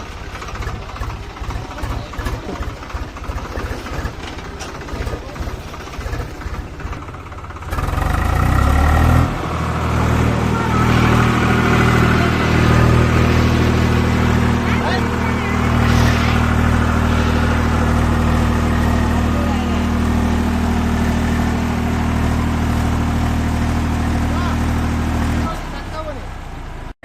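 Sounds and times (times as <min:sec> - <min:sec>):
tractor diesel engine chugging: 0:00.0 - 0:26.9.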